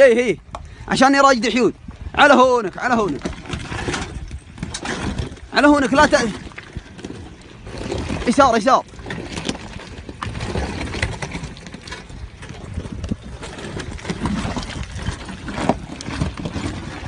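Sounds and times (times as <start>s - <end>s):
rocks knocking under wheels: 2.7s - 17.0s.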